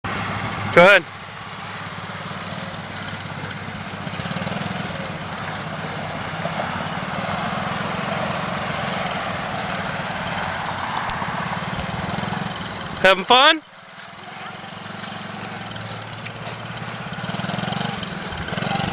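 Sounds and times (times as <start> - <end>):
small motorcycle engine running: 0.1 - 18.9.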